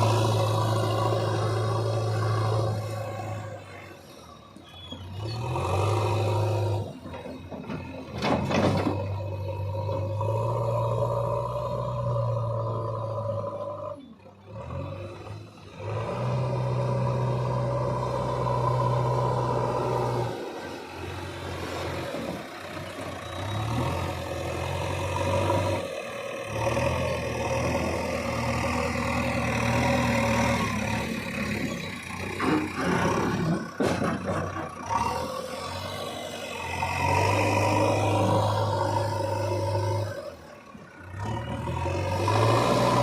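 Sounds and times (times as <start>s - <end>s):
diesel engine under load: 0.0s - 43.0s.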